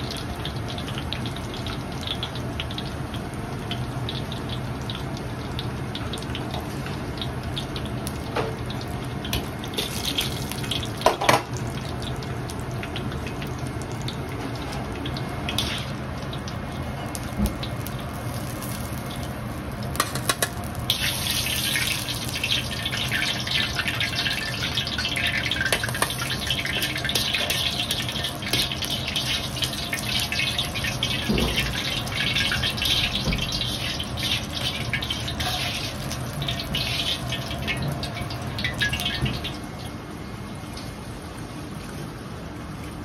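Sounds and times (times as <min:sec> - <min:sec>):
peppercorns sizzling in hot oil: 0:00.0 - 0:39.6.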